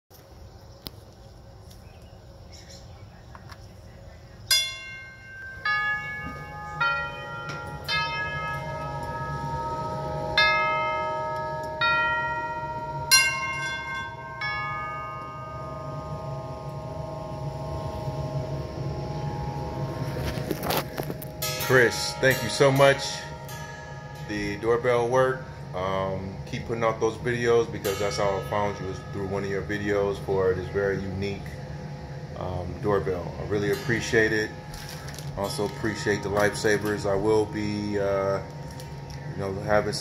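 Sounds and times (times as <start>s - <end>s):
tubular doorbell chime: 4.5s - 40.0s.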